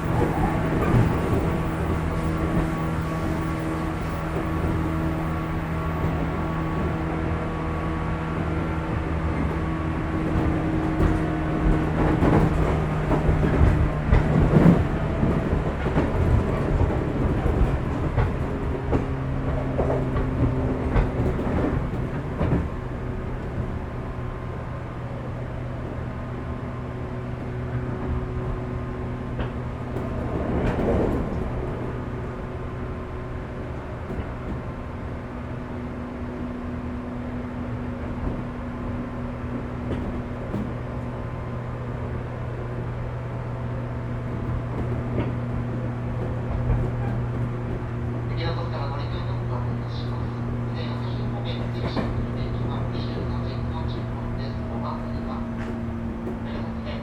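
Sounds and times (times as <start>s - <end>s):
constant train rumble: 0.0s - 57.0s
traction motors humming: 0.0s - 57.0s
wheels clacking over rail joints: 0.0s - 57.0s.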